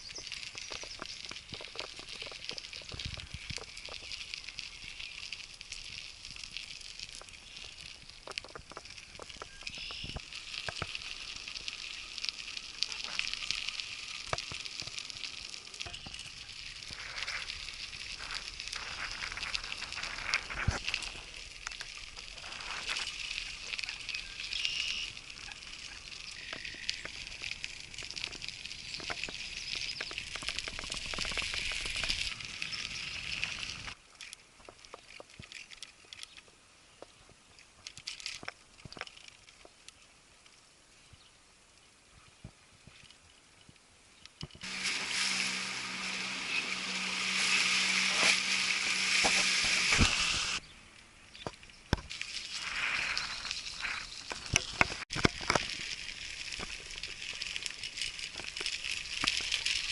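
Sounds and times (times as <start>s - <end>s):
crackling hiss with clicks: 0.0s - 59.9s.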